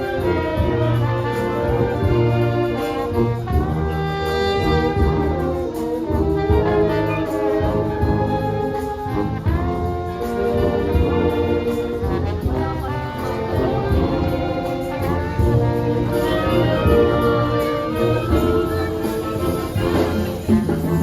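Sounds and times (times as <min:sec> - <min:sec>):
brass band playing pop songs: 0:00.0 - 0:21.0.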